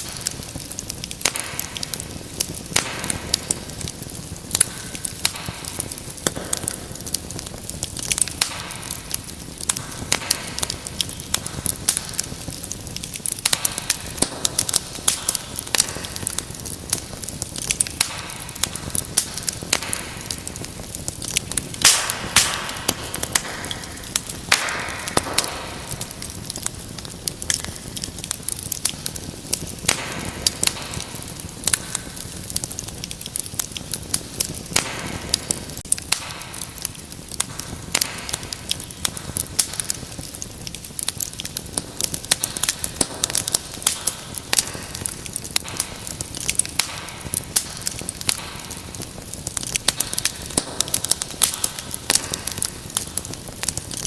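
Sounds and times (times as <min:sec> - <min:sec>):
fire crackling and popping: 0:00.0 - 0:54.0
fire hissing: 0:00.0 - 0:54.0.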